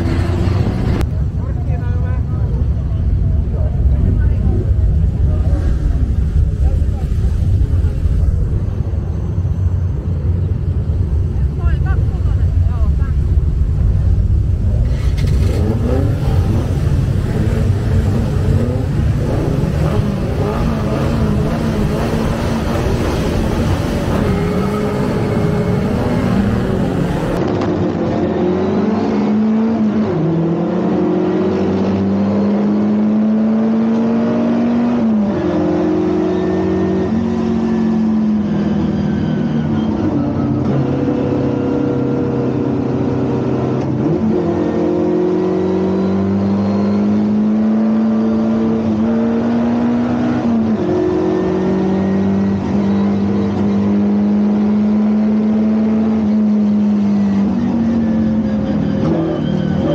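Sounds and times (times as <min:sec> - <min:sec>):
race car engine revving: 0:11.6 - 0:59.9.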